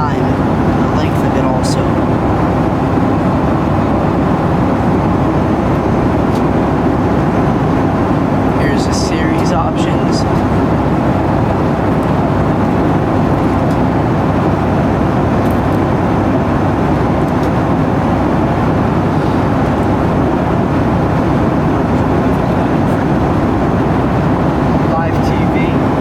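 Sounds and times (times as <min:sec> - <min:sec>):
airliner cabin engine rush: 0:00.0 - 0:26.0.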